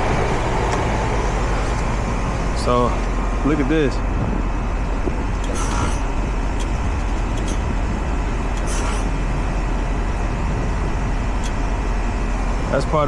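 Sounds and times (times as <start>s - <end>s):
heat pump fan and compressor hum: 0.0s - 13.0s.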